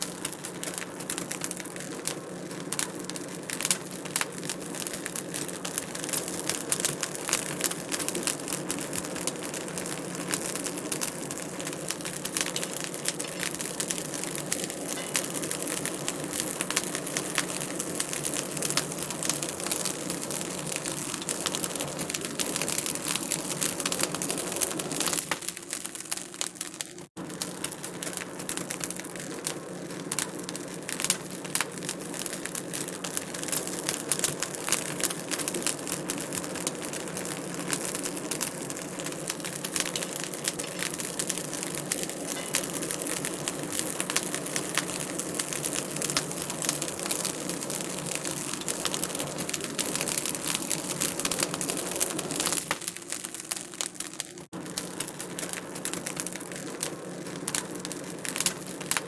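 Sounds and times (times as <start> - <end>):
low rush of burning: 0.0 - 25.6, 27.2 - 52.8
wood fire crackling and popping: 0.0 - 59.0.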